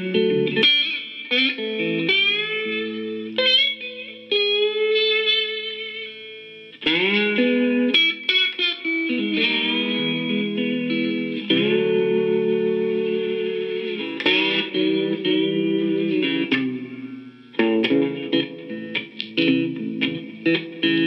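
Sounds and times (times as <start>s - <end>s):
electric guitar bending notes: 0.0s - 21.0s.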